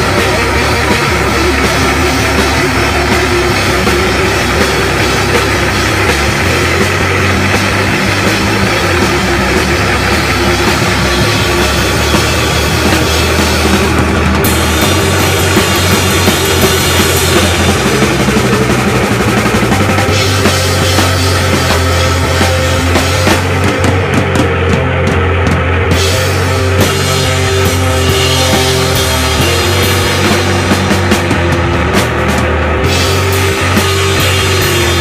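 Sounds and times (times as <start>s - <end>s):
drum kit: 0.0s - 35.0s
electric guitar: 0.0s - 35.0s.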